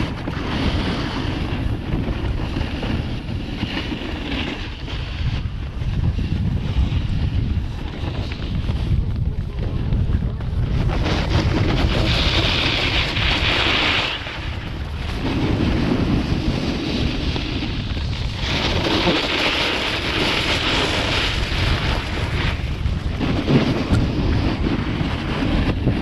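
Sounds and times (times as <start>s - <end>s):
snowboard scraping on snow: 0.0s - 26.0s
wind buffeting microphone: 0.0s - 26.0s.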